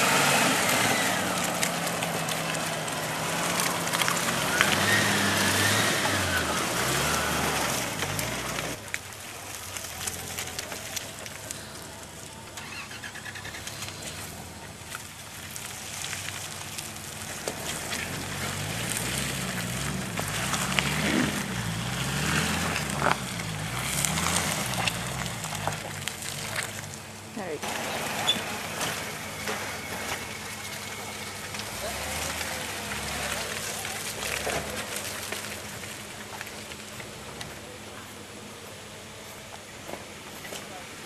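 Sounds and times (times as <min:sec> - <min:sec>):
off-road vehicle engine in mud: 0:00.0 - 0:41.0.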